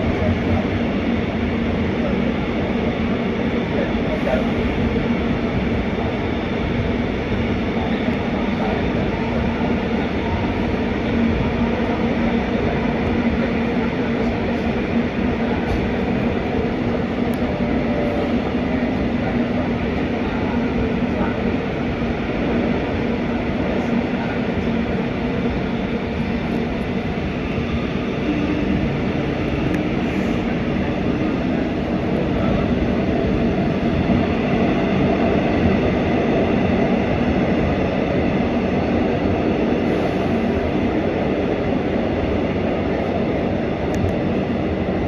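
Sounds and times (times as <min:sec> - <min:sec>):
subway train wheels rumbling: 0:00.0 - 0:45.0.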